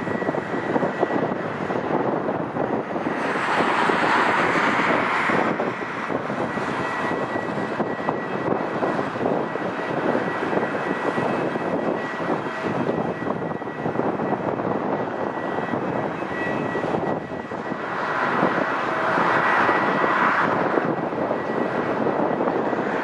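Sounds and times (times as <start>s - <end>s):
jet engine high whine: 0.0s - 23.0s
jet engines rushing: 0.0s - 23.0s.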